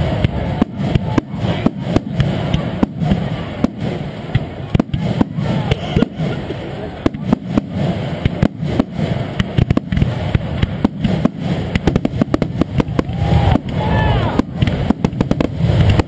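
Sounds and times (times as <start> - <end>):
firework shells bursting: 0.0 - 16.0
low rumble: 0.0 - 16.0.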